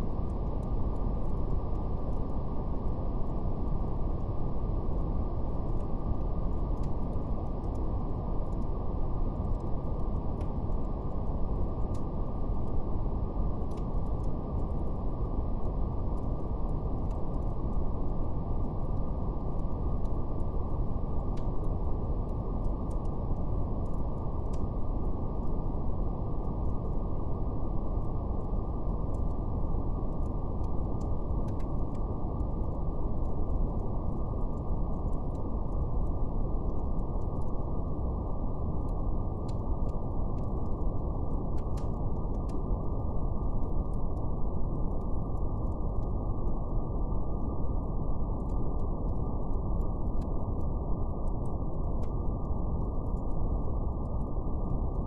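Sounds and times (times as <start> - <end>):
brown noise rumbling hiss: 0.0 - 55.0
wood fire crackling: 0.1 - 55.0.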